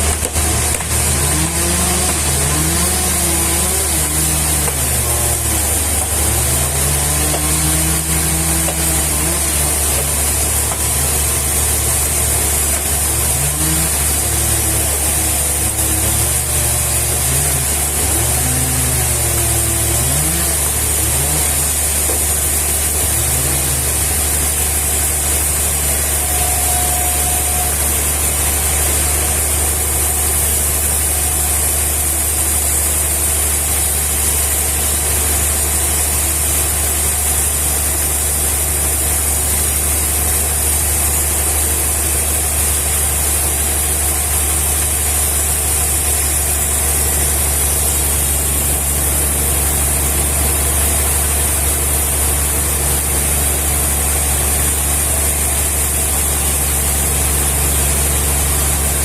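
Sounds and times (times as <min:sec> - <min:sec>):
engine idling with hiss: 0:00.0 - 0:59.0.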